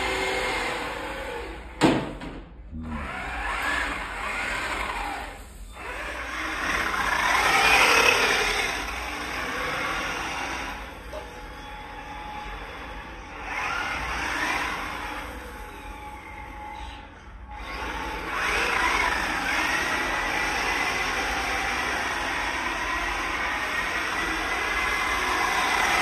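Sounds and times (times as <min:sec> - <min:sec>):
toy car motor whine: 0:02.8 - 0:26.0.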